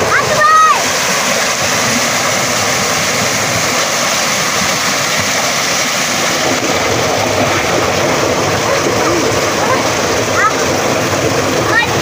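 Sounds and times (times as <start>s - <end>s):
children splashing: 0.0s - 12.0s
water gushing from a pipe: 0.0s - 12.0s.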